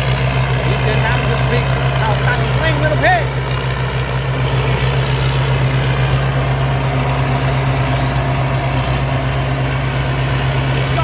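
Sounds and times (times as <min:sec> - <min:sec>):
combine harvester engine hum: 0:00.0 - 0:11.0
thin high whine: 0:00.8 - 0:11.0.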